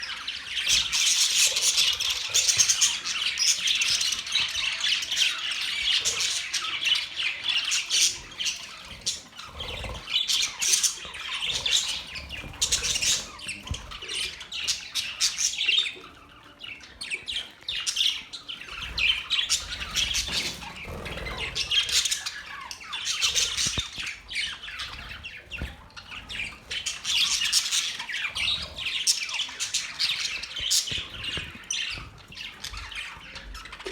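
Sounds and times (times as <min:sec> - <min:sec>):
pet birds chirping and squawking: 0:00.0 - 0:33.9.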